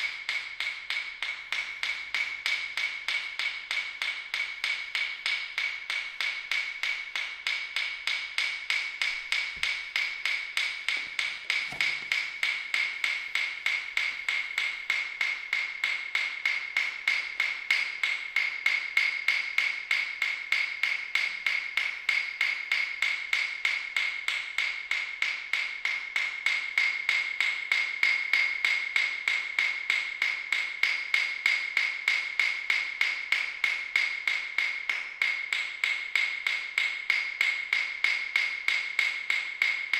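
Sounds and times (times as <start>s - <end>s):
rhythmic ticking pulse: 0.0s - 39.9s.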